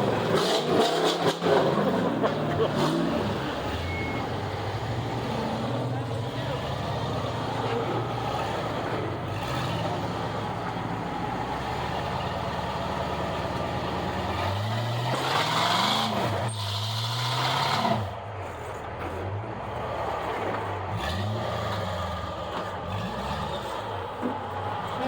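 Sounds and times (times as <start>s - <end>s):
vehicle engine running and revving: 0.0s - 25.0s.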